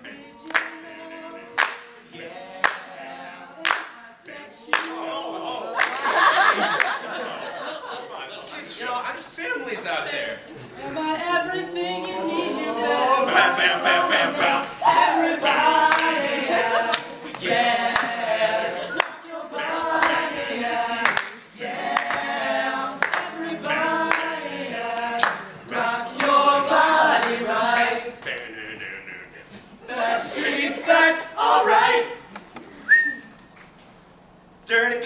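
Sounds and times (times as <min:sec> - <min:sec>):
boys singing unaccompanied: 0:00.0 - 0:07.3, 0:10.7 - 0:32.3.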